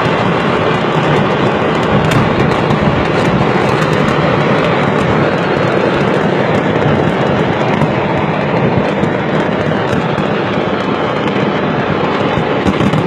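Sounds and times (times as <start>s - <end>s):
fireworks crackling and popping: 0.0s - 13.0s
loud steady rushing noise: 0.0s - 13.0s.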